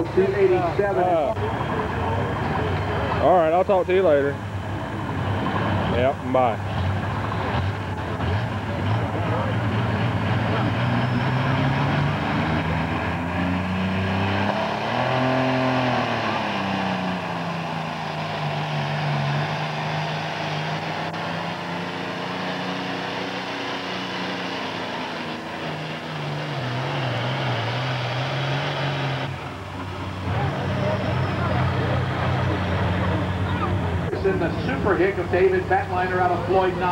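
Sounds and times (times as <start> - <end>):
tractor diesel engine running hard: 0.0 - 36.9.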